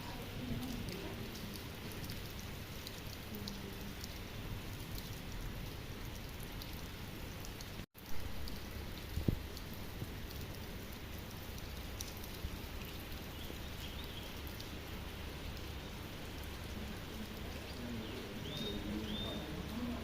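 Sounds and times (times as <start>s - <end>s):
faint drip ticks: 0.0s - 20.0s
steady rain: 0.0s - 20.0s.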